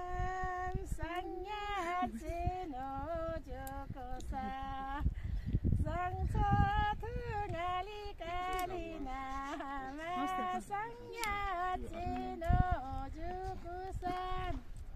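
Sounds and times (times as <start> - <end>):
women singing unaccompanied: 0.0 - 5.2, 5.8 - 14.7
low rumble on microphone: 0.0 - 14.9.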